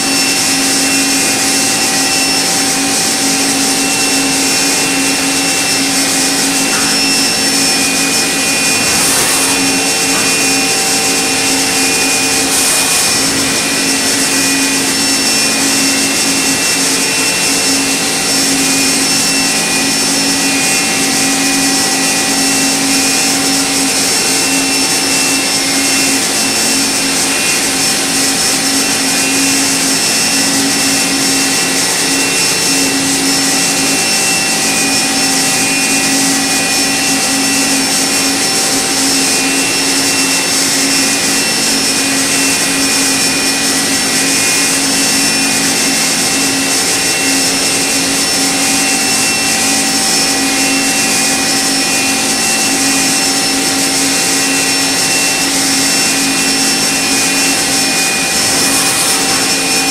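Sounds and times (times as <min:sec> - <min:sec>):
machining spindle whine: 0:00.0 - 0:59.9.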